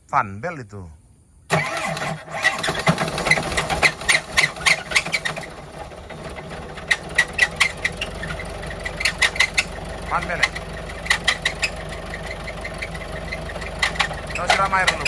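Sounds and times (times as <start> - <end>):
engine running: 1.5 - 15.0.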